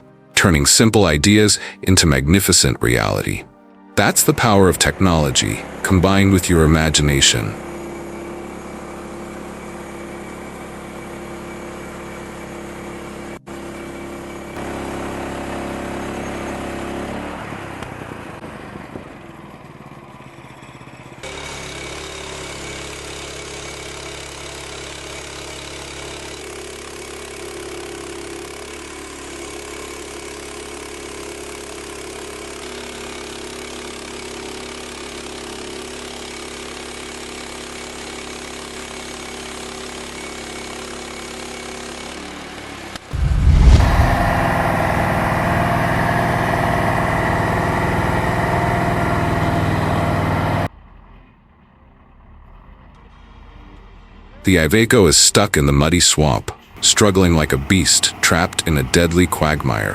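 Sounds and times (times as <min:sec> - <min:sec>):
engine running: 0:00.0 - 0:51.0, 0:51.9 - 0:59.9.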